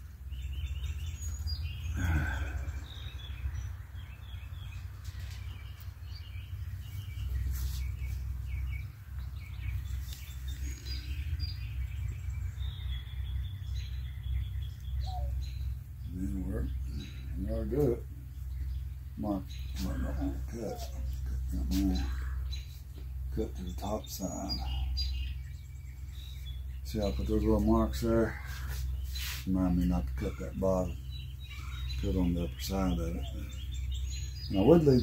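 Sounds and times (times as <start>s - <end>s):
songbirds chirping: 0.0s - 35.0s
steady low rumble: 0.0s - 35.0s.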